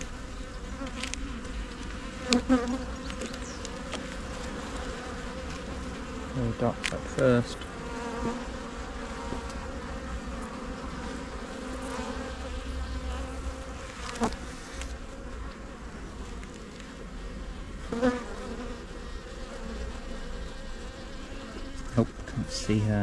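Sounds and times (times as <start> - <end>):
bees buzzing: 0.0 - 23.0.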